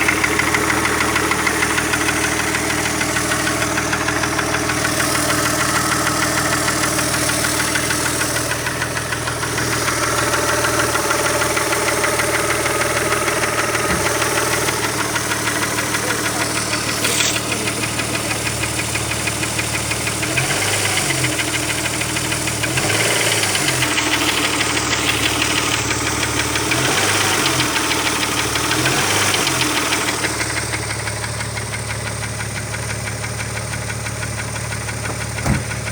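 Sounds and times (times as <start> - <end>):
engine knocking: 0.0 - 35.9.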